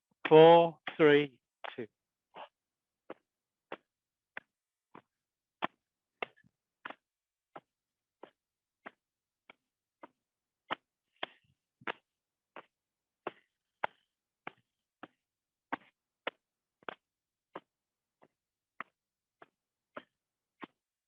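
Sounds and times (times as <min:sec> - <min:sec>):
hands patting legs: 0:02.4 - 0:21.0.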